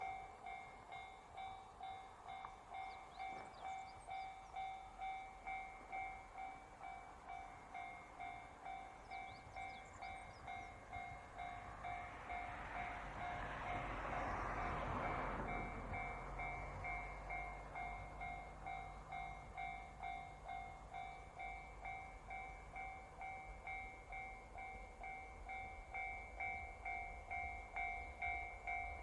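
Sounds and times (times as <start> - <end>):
diesel train rumble: 0.0 - 29.0
railroad crossing alarm ringing: 0.0 - 29.0.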